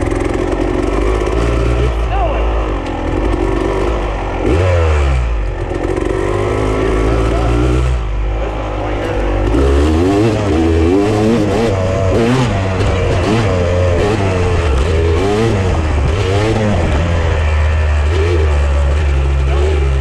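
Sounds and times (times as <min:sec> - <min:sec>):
off-road engine revving: 0:00.0 - 0:20.0.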